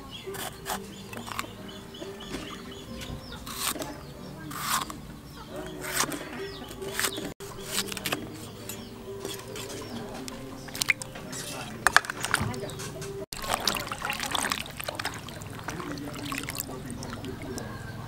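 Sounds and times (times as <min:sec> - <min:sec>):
birds calling: 0:00.0 - 0:18.0
chickens clucking: 0:00.0 - 0:18.0.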